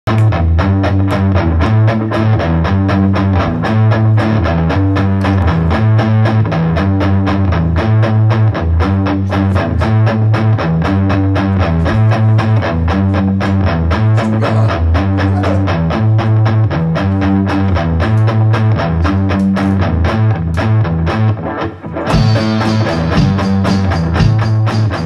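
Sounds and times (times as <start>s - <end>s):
instrumental rock music: 0.1s - 25.0s.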